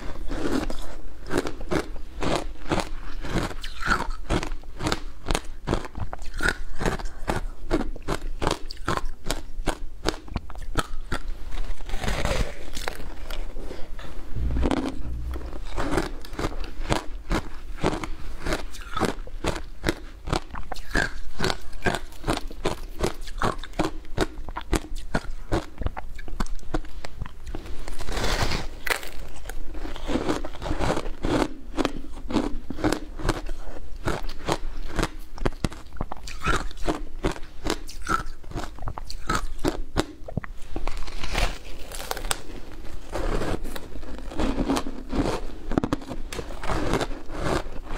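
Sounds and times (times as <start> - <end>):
ice being chewed crunching: 0.0 - 13.5, 16.9 - 47.9.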